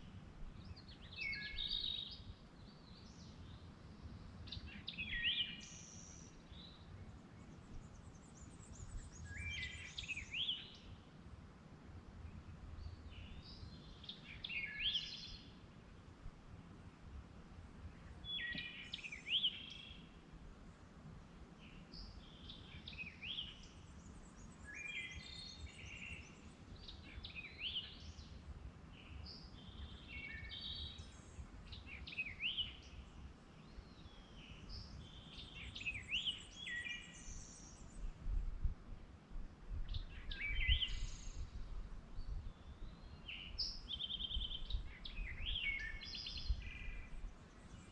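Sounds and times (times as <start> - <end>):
songbird chirping: 0.0 - 11.2, 12.0 - 47.9.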